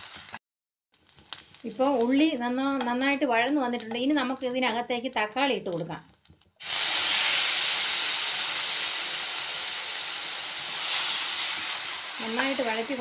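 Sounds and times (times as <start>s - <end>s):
tomatoes sizzling in oil: 0.0s - 0.4s, 1.0s - 5.5s, 6.6s - 13.0s.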